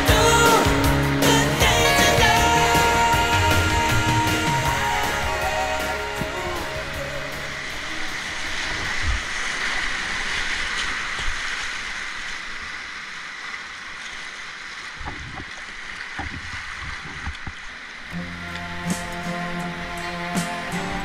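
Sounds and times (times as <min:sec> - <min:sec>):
whitewater rushing: 0:00.0 - 0:21.0.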